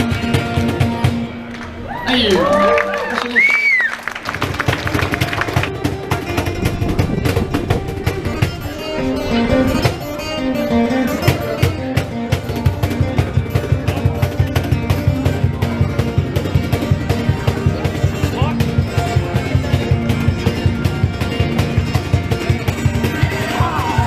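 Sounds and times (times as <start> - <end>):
fast strummed beat: 0.0 - 1.4, 4.2 - 24.0
plucked acoustic guitar: 0.0 - 1.6, 4.4 - 24.0.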